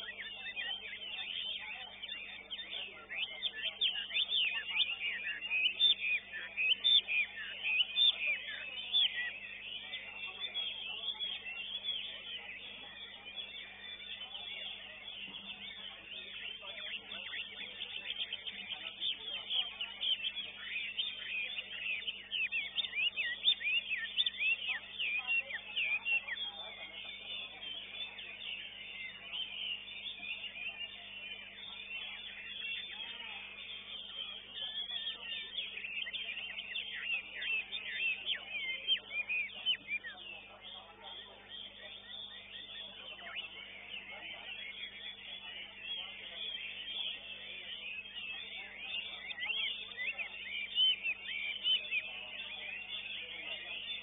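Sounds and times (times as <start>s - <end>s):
songbirds chirping and whistling: 0.0s - 54.0s.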